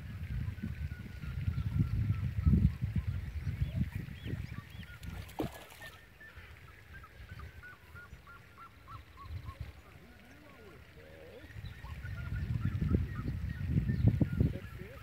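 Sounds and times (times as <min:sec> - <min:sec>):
birds calling: 0:01.4 - 0:15.0.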